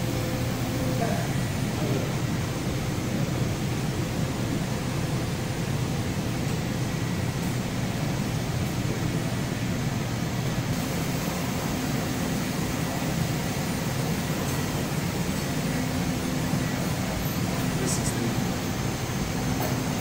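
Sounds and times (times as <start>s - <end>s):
machinery hum with fan rush: 0.0s - 20.0s.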